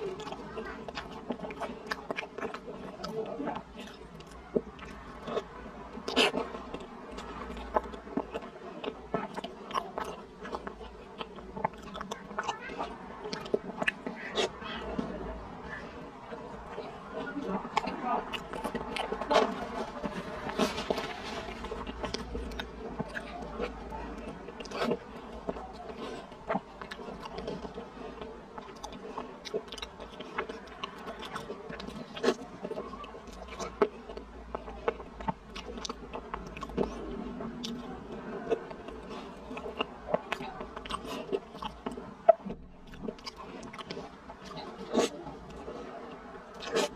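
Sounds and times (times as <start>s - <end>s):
wet chewing and mouth sounds: 0.0s - 46.9s.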